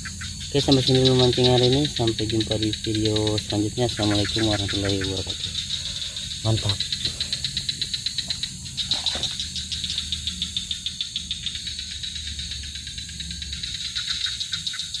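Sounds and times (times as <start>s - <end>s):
crickets chirring in a trill: 0.0s - 15.0s
high steady hiss: 0.0s - 15.0s.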